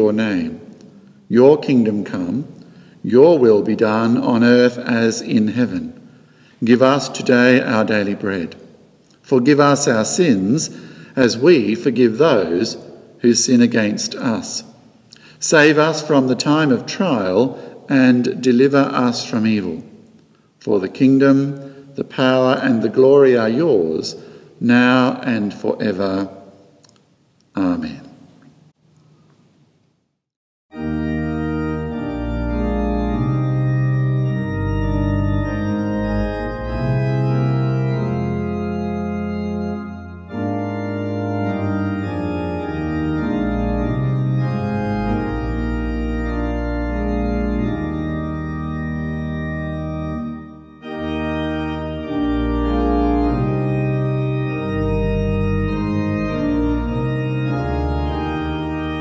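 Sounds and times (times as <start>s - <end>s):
organ playing hymn chords: 0.0s - 26.6s, 30.7s - 59.0s.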